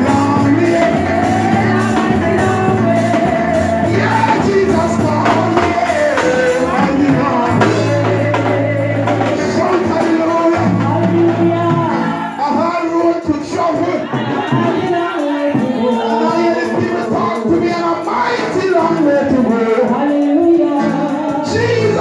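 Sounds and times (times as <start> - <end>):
gospel music: 0.0 - 22.0
lead voice singing: 0.0 - 22.0.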